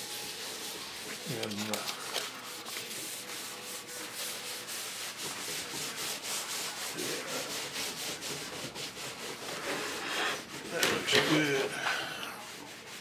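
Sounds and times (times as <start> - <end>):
metal rubbed on sandpaper: 0.0 - 11.6, 12.4 - 13.0.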